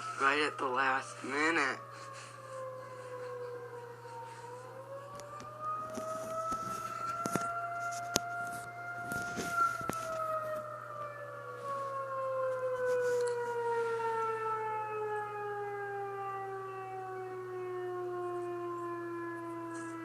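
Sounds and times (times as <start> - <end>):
tornado warning siren winding down: 0.0 - 20.0.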